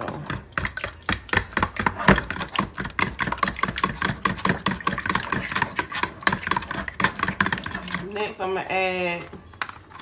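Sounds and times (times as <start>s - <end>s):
fork beating eggs in bowl: 0.0s - 8.6s.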